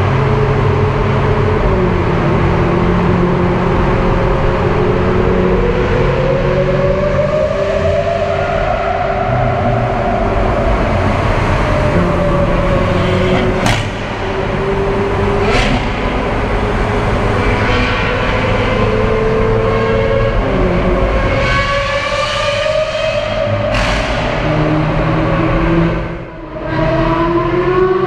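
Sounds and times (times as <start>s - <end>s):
car engine at speed: 0.0s - 28.0s
road and wind noise: 0.0s - 28.0s.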